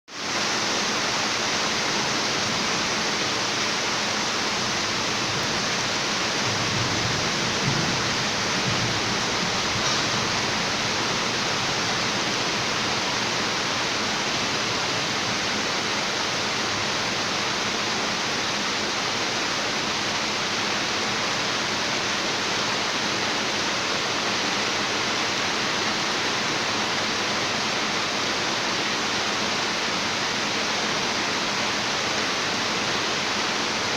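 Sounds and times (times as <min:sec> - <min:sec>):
running water rushing: 0:00.1 - 0:33.9.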